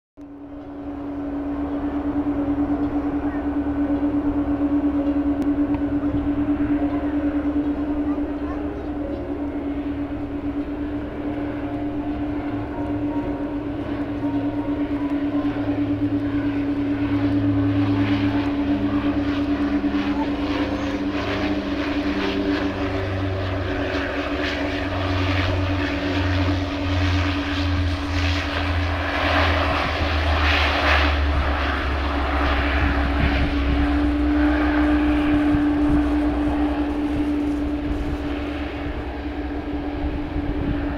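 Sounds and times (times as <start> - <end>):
low engine rumble: 0.2 - 40.9
propeller drone: 0.2 - 40.9.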